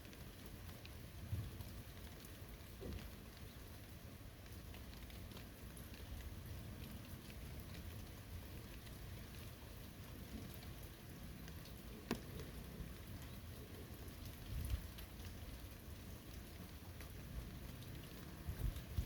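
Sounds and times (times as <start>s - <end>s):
steady rain in forest: 0.0s - 19.0s.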